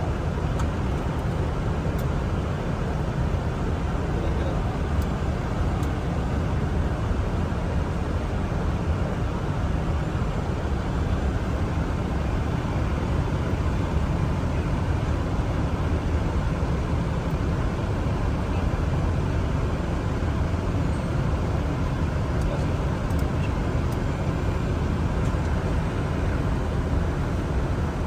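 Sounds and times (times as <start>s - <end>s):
cockpit low rumble with hiss: 0.0s - 28.0s.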